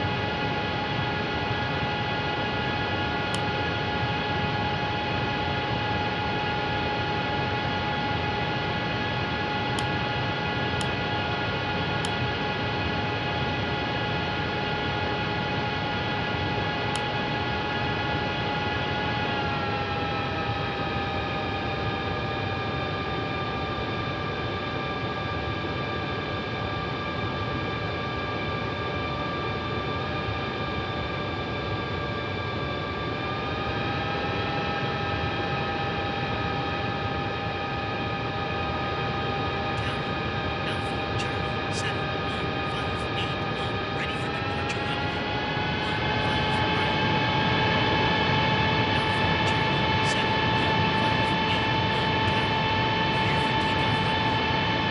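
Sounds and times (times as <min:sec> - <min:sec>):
jet engines whining: 0:00.0 - 0:22.6, 0:31.9 - 0:54.9.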